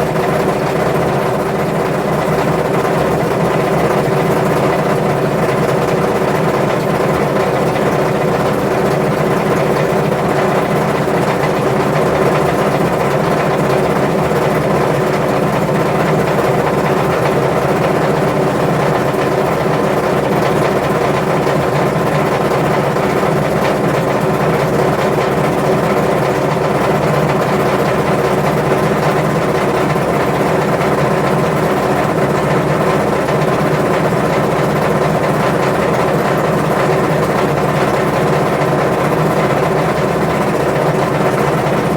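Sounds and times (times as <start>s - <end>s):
washing machine rattling rapidly: 0.0s - 41.9s.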